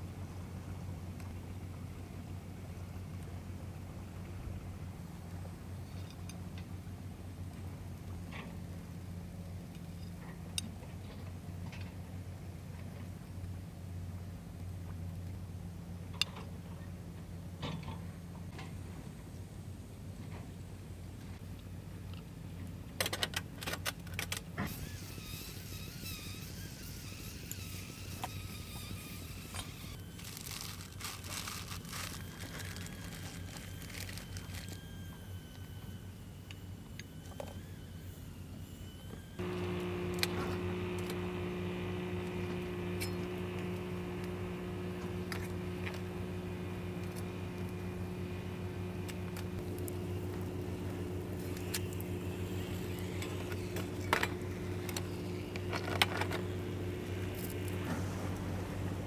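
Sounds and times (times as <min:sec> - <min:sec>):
loud droning hum: 0:00.0 - 0:22.7, 0:24.6 - 0:59.0
steady low hum: 0:00.0 - 0:23.0, 0:24.7 - 0:59.0.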